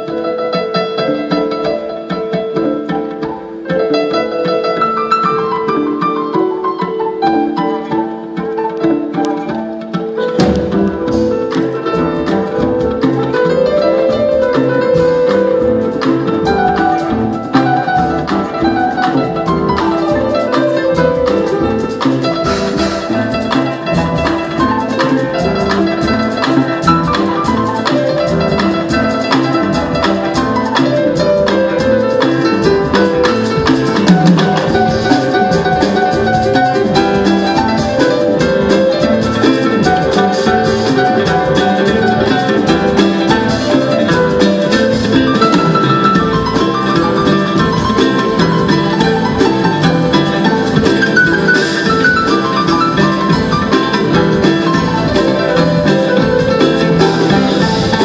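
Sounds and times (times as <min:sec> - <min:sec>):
drums keeping time: 0:00.0 - 0:58.0
grand piano: 0:00.0 - 0:58.0
kanun plucked notes: 0:00.0 - 0:58.0.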